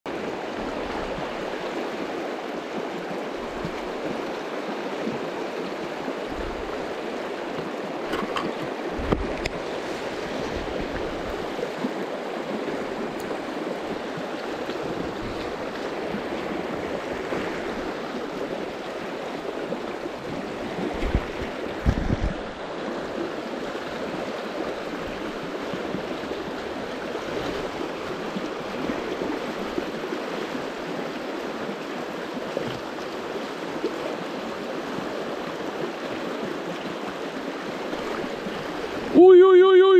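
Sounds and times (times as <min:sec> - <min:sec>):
river rushing over stones: 0:00.1 - 0:39.9.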